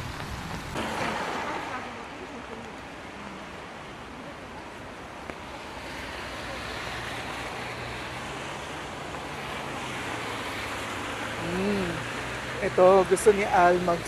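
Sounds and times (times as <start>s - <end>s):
light rain hiss: 0.0s - 14.0s.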